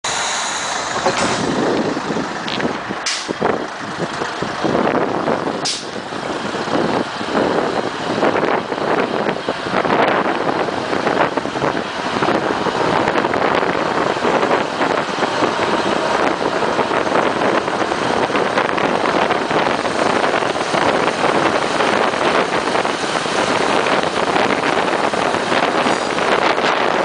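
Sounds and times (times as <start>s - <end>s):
railcar engine and wheel noise: 0.0s - 27.0s
wind buffeting microphone: 0.1s - 27.0s.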